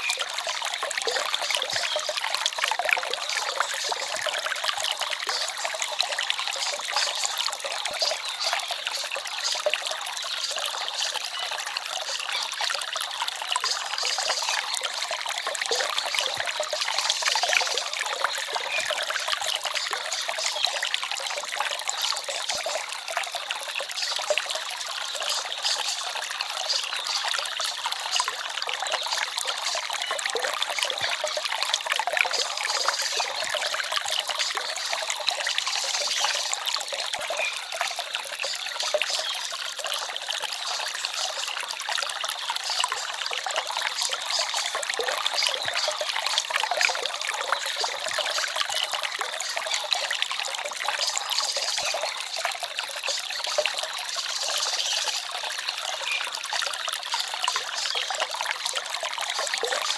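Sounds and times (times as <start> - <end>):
stream trickling and babbling: 0.0 - 59.9.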